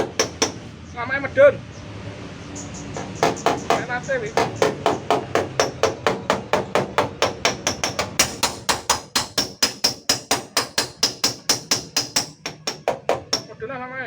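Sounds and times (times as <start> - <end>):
hammer tapping on sheet steel: 0.0 - 0.7, 3.0 - 13.6.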